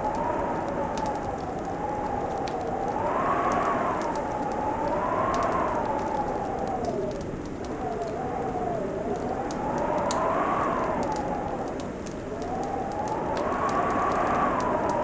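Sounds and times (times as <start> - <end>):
fireplace crackling and popping: 0.0 - 15.0
wind howling: 0.0 - 15.0.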